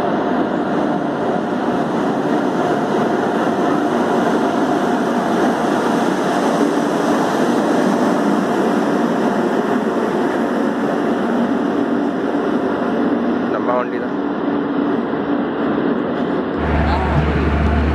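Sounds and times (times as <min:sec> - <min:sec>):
train wheels rumbling on rail: 0:00.0 - 0:17.9.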